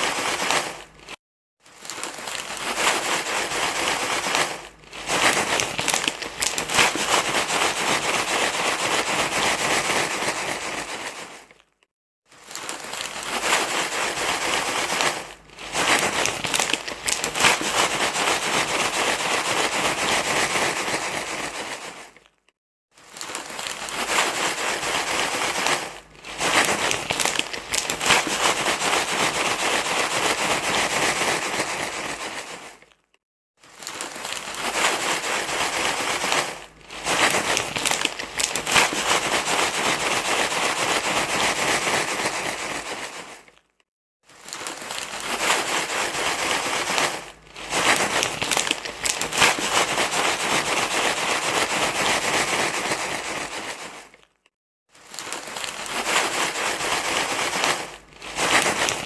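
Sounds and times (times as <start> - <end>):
dense crinkling rustle: 0.0 - 59.0.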